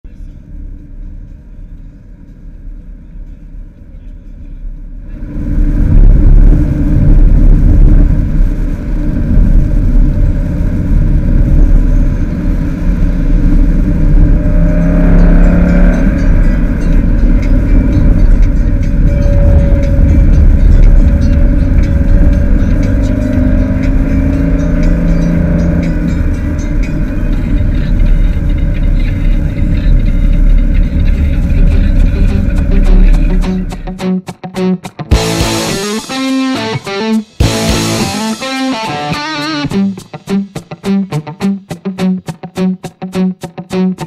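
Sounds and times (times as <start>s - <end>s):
tyre and road rumble: 5.0s - 41.9s.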